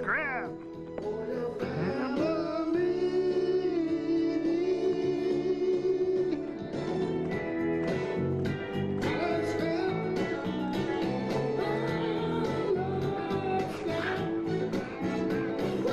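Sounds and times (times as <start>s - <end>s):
person singing: 0.0s - 7.1s, 9.0s - 15.9s
upbeat music with guitar: 0.0s - 15.9s.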